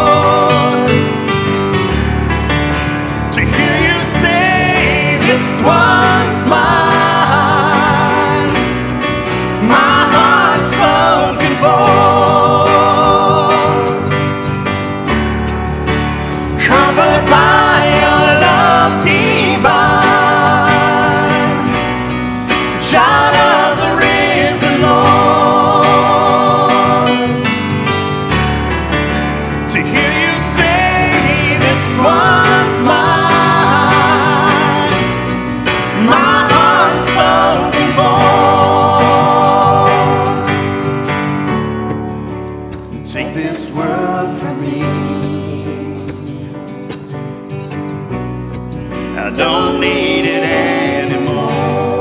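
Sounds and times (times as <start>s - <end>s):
people singing: 0.0s - 15.1s, 15.9s - 42.1s, 42.8s - 47.2s, 49.0s - 52.0s
acoustic guitar and keyboard chord: 0.0s - 52.0s.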